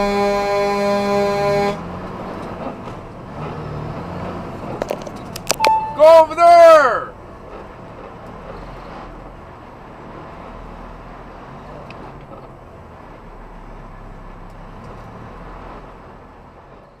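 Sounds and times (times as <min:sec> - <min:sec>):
faint road noise: 0:00.0 - 0:17.0
truck engine running: 0:00.0 - 0:17.0.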